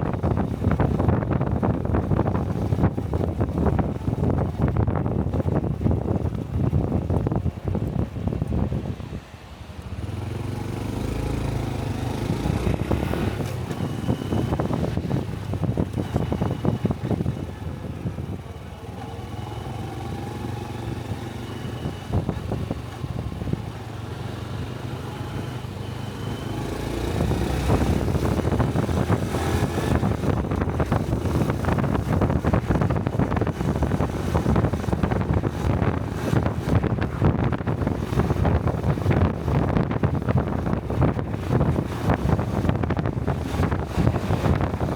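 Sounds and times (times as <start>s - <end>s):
motorcycle engine while riding: 0.0s - 44.9s
wind buffeting microphone: 0.0s - 44.9s.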